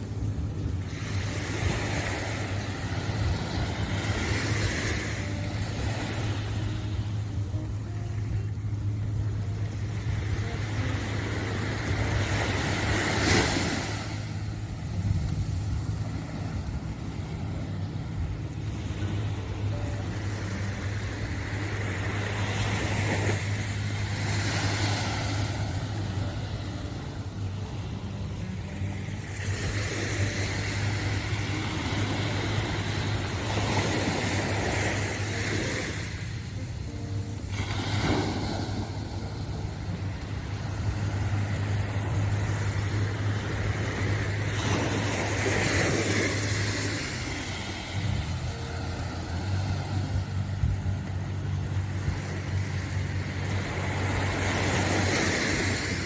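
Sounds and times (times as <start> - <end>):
steady low hum: 0.0 - 55.2
waves washing onto sand: 0.0 - 56.0.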